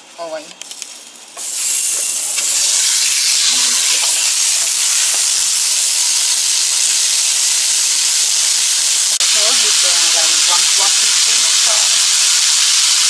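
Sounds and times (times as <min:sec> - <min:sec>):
meat sizzling in frying pan: 0:00.7 - 0:13.0.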